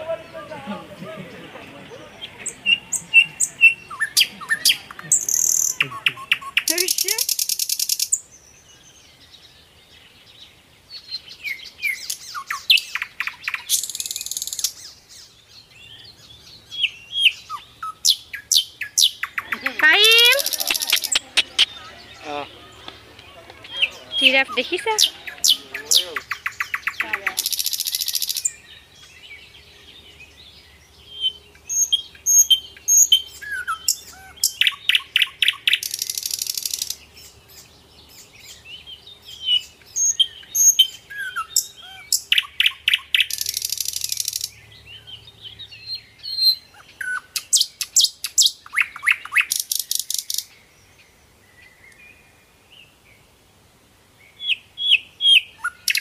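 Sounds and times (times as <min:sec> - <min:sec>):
birds chirping and trilling: 0:00.0 - 0:53.4, 0:54.1 - 0:56.0.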